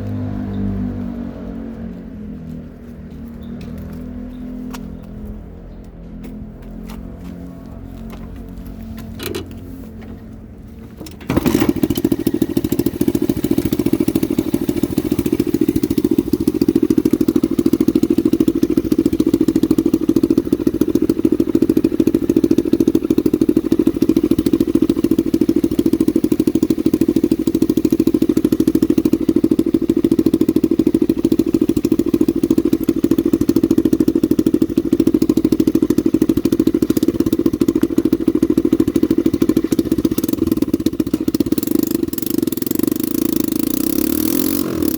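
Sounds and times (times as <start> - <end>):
motorbike engine starting and idling: 0.0 - 44.9.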